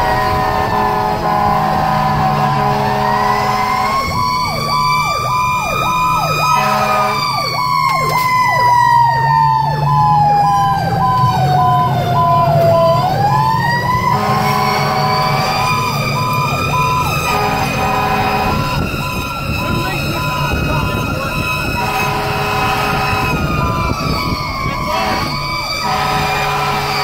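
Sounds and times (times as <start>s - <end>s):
electronic siren sweeping: 0.0s - 27.0s
truck engine running low: 0.0s - 27.0s.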